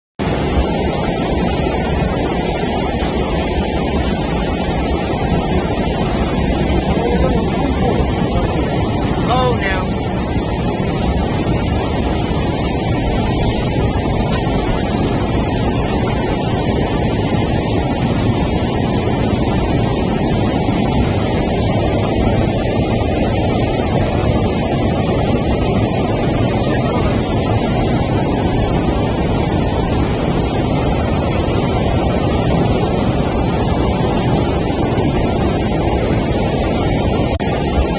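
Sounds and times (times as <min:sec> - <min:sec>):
floodwater rushing: 0:00.2 - 0:37.9.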